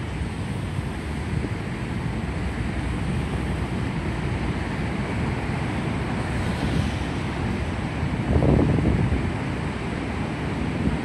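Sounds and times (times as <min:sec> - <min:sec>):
surf rushing and rumbling: 0:00.0 - 0:11.0
wind buffeting microphone: 0:00.0 - 0:11.0.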